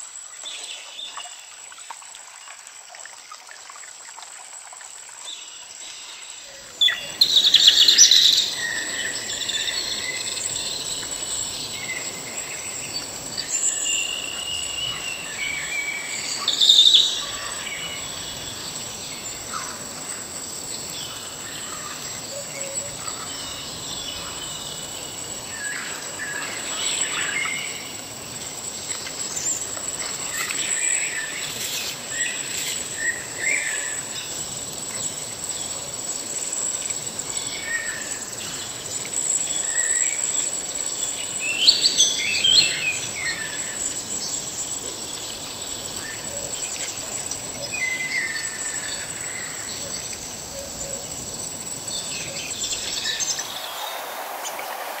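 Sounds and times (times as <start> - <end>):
rush of water and wind: 6.0 - 55.0.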